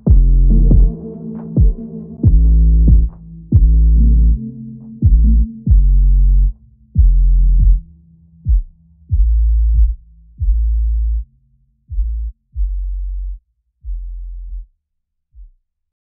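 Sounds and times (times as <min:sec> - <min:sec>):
electronic deep bass notes: 0:00.0 - 0:14.7.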